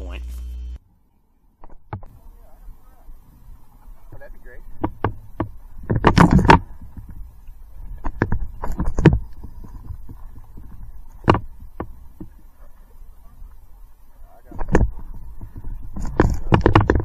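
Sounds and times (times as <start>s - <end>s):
gear knocking and rustling: 3.1s - 17.0s.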